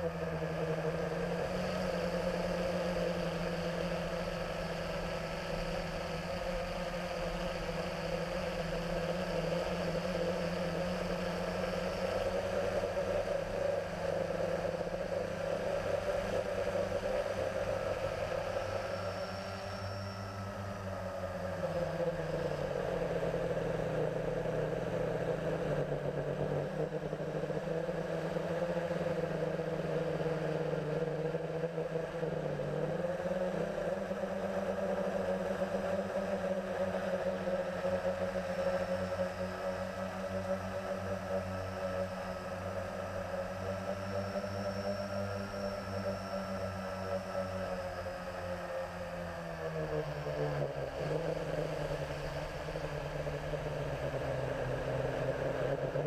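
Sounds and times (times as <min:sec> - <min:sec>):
quadcopter motors humming: 0:00.0 - 0:56.0.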